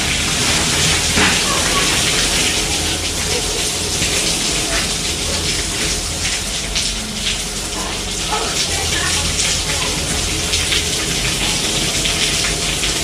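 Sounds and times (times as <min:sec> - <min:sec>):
heavy rain falling: 0:00.0 - 0:13.0
water splashing and running: 0:00.0 - 0:13.0.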